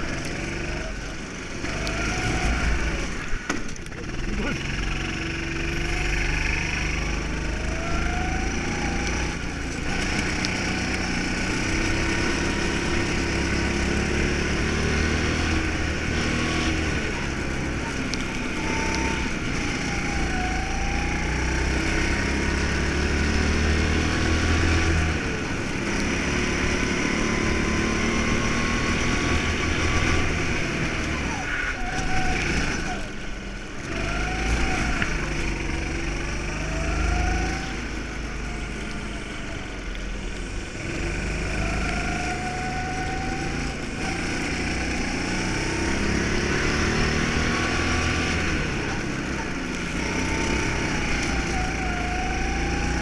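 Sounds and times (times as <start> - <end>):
go-kart engine: 0.0 - 53.0
wind and road noise: 0.0 - 53.0.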